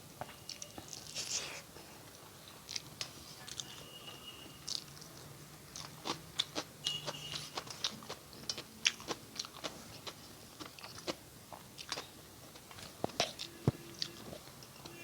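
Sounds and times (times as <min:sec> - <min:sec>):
person chewing food: 0:00.5 - 0:03.8, 0:04.7 - 0:15.0.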